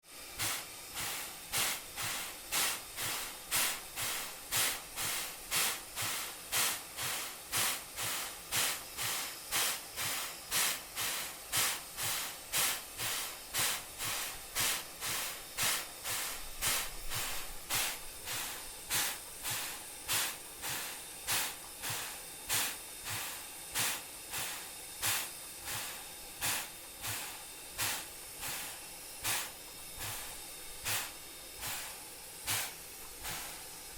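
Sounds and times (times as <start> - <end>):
steam locomotive hissing: 0.0 - 33.9.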